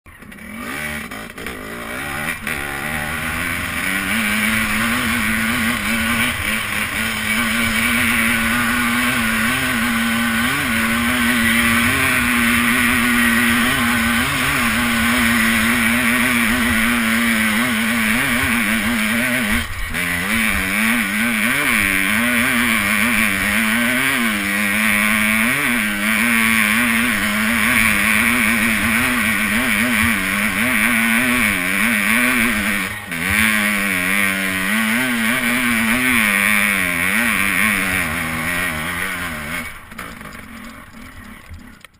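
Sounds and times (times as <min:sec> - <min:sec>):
motorcycle engine under load: 0:00.1 - 0:41.9.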